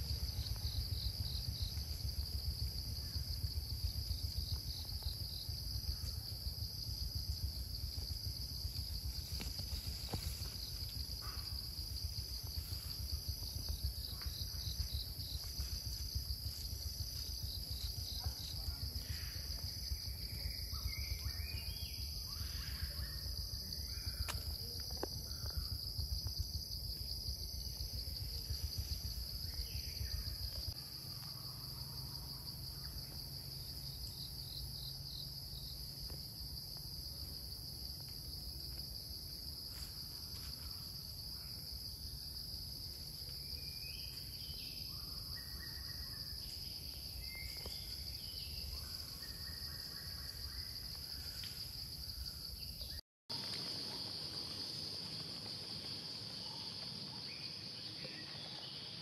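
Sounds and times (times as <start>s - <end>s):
insects droning: 0.0s - 59.0s
pulsed insect trill: 0.0s - 59.0s.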